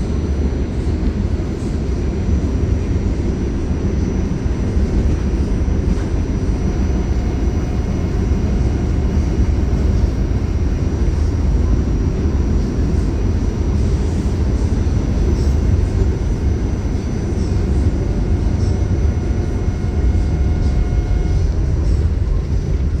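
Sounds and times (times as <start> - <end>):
steady low rumble: 0.0 - 23.0
faint steady hum: 0.8 - 23.0.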